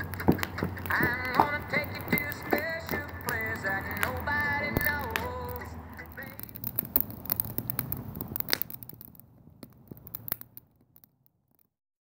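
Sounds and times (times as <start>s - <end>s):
low steady rush: 0.0s - 10.2s
wood fire crackling and popping: 0.0s - 11.8s.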